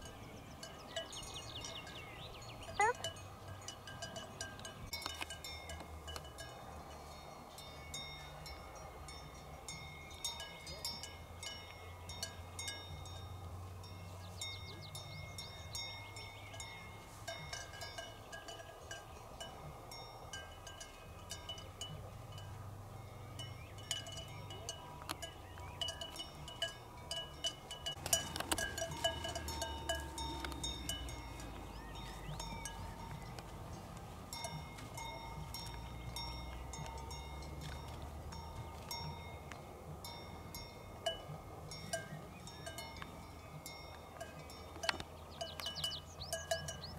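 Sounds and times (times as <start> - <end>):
cowbells clanking: 0.0 - 46.9.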